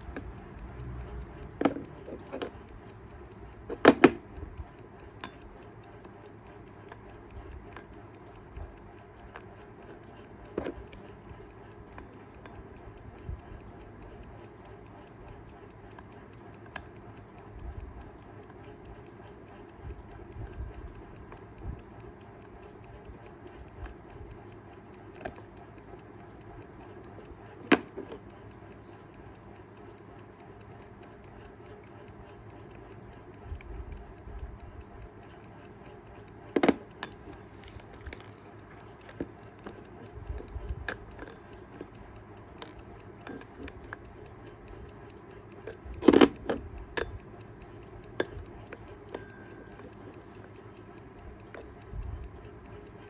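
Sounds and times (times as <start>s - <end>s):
alarm clock ticking: 0.0s - 53.0s
sharp clicks: 0.0s - 53.0s.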